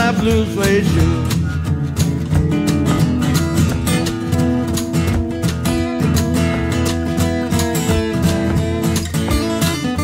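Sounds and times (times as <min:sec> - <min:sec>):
acoustic guitars playing blues: 0:00.0 - 0:10.0.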